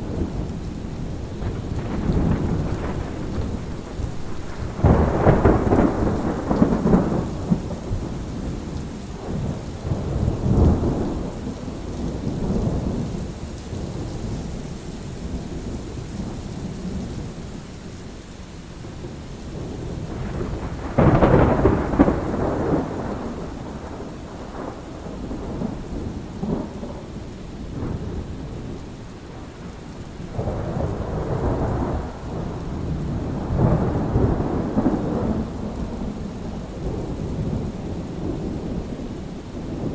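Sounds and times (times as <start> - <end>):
thunder rumbling: 0.0 - 14.1, 19.5 - 39.9
steady rain falling: 0.0 - 39.9.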